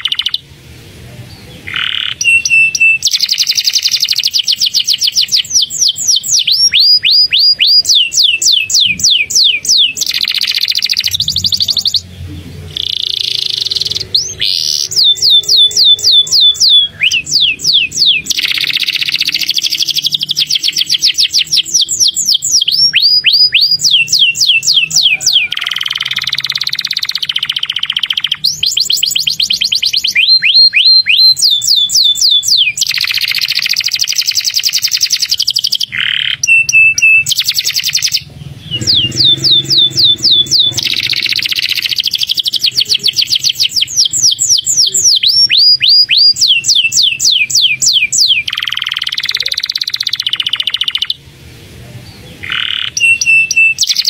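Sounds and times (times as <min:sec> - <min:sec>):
canary singing: 0:00.0 - 0:51.3, 0:52.0 - 0:54.0.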